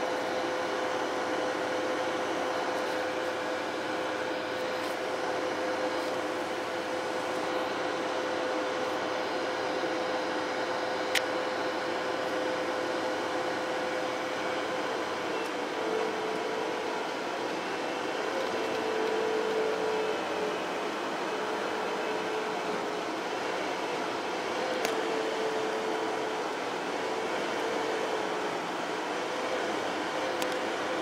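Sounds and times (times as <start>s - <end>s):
loader engine running: 0.0s - 31.0s
steady whine: 0.0s - 31.0s.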